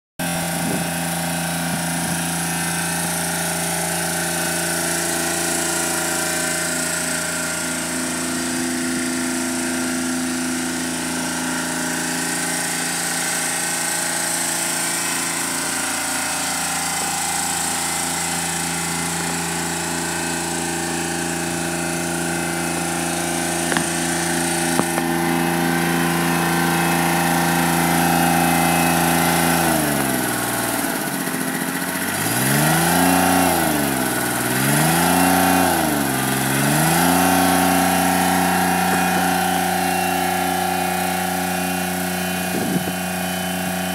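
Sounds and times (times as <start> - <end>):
mower diesel engine running: 0.2 - 43.9.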